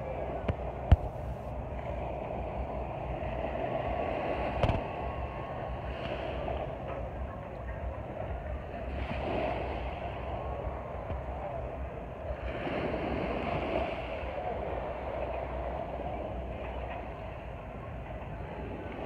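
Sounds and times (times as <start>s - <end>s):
steady rumbling noise: 0.0s - 19.0s.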